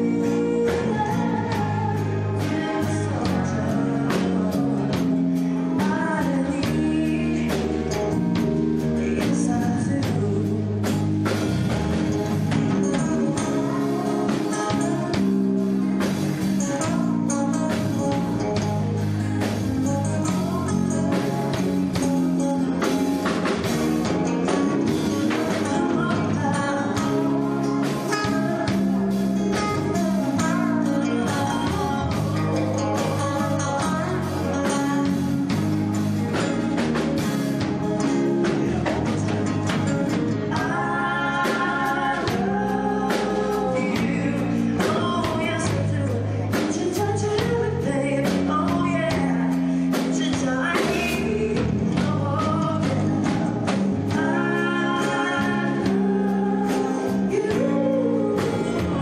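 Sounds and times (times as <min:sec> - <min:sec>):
bass guitar: 0:00.0 - 0:59.0
drum kit: 0:00.0 - 0:59.0
electric guitars: 0:00.0 - 0:59.0
man singing lead: 0:00.0 - 0:59.0.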